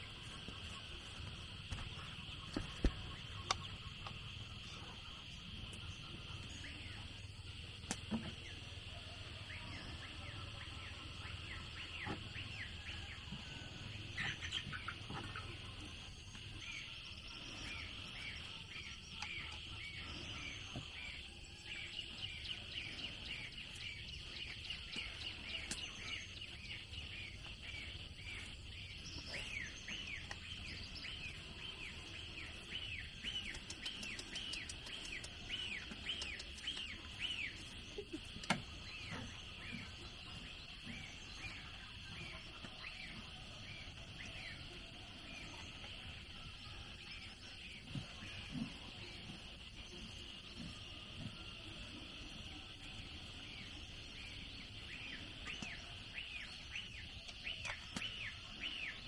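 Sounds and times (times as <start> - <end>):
birds chirping: 0.0 - 59.0
insect drone: 0.0 - 59.0.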